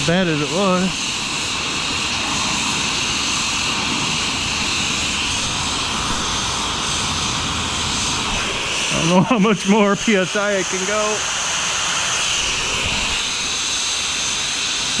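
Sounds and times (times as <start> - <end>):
gas torch flame roaring: 0.0 - 15.0.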